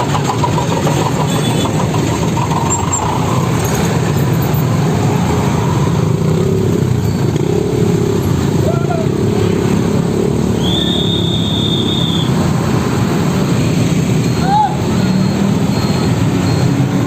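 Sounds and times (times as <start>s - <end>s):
loud vehicle engine: 0.0s - 17.0s.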